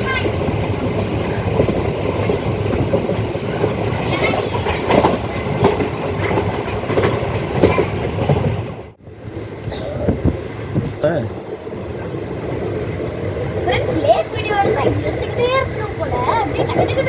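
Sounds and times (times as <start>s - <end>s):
train wheels clattering on rails: 0.0s - 9.0s, 9.6s - 17.0s.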